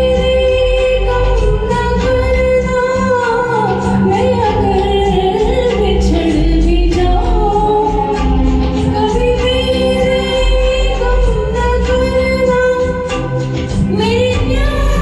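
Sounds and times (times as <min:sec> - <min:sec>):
instrumental accompaniment: 0:00.0 - 0:15.0
woman singing slow song: 0:00.0 - 0:15.0.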